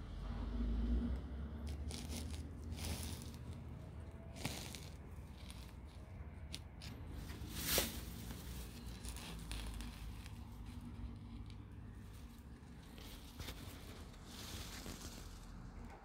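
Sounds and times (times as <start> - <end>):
phone handling rumble and rustling: 1.7 - 16.0.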